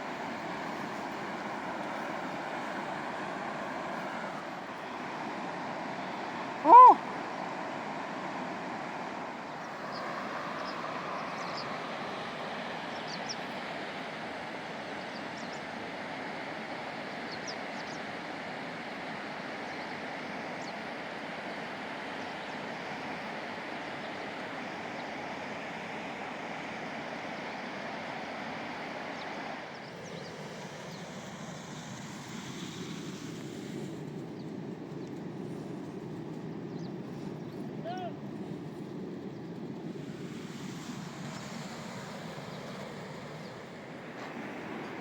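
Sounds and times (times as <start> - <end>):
flowing river water: 0.0 - 33.9, 40.2 - 45.0.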